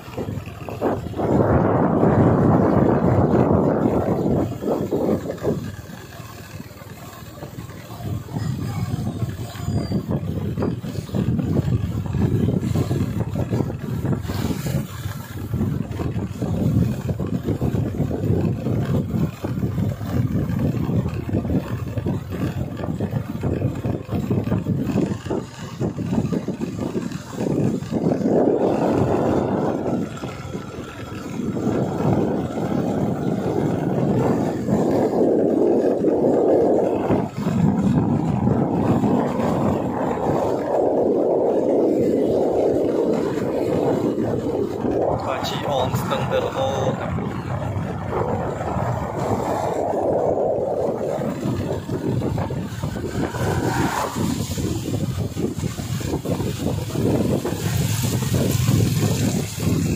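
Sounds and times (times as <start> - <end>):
vehicle moving along road: 0.0 - 59.9
wind buffeting microphone: 0.0 - 59.9.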